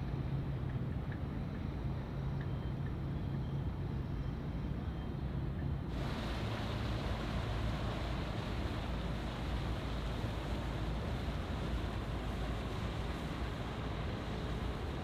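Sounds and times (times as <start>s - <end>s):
low rumble of distant engines: 0.0s - 15.0s.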